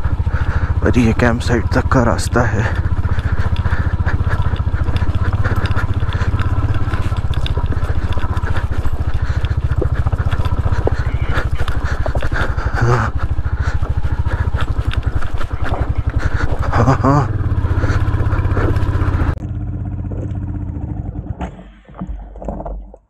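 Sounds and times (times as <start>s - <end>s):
bike rattling over cobbles: 0.0s - 19.4s
motorcycle engine thumping: 0.0s - 22.9s.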